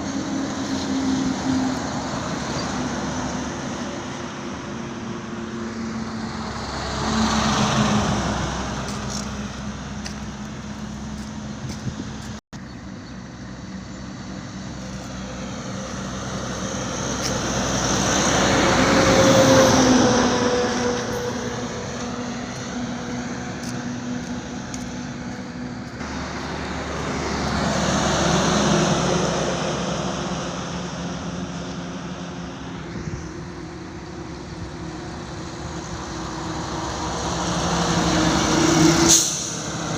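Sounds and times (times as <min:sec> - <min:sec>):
road noise hum: 0:00.0 - 0:39.9
vehicles passing close: 0:00.0 - 0:39.9.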